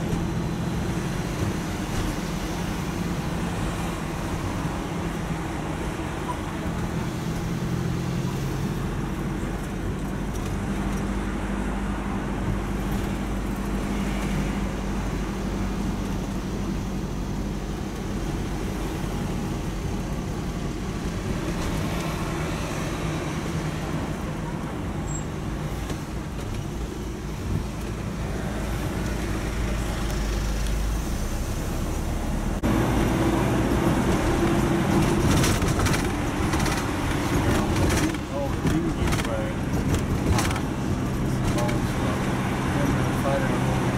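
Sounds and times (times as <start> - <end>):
tyre and road noise: 0.0 - 43.9
vehicle engine hum: 0.0 - 43.9.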